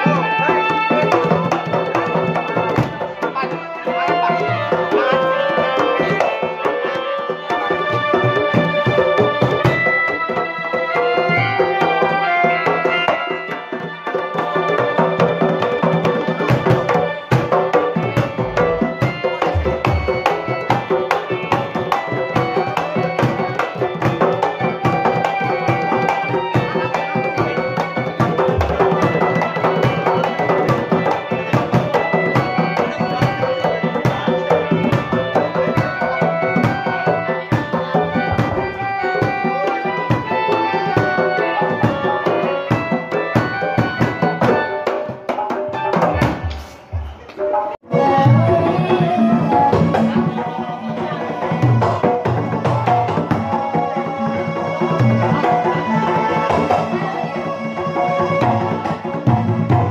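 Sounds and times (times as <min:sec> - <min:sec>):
hand drums fast rhythm: 0:00.0 - 0:47.2, 0:47.8 - 0:59.9
pitched percussion melody: 0:00.0 - 0:59.9.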